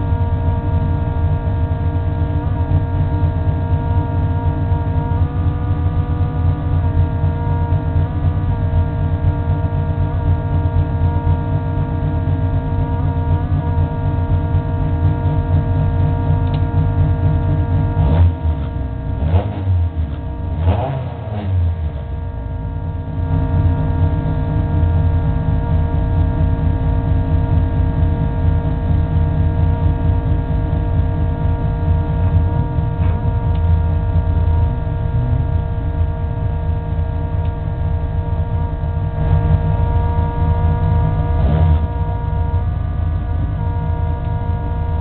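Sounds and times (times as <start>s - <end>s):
race car engine idling: 0.0s - 45.0s
steady whining tones: 0.0s - 45.0s.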